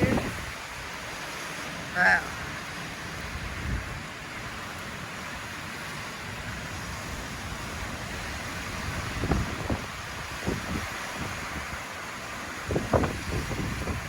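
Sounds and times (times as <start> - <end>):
hurricane wind and rain: 0.0 - 14.0
wind gusts buffeting microphone: 0.0 - 14.0.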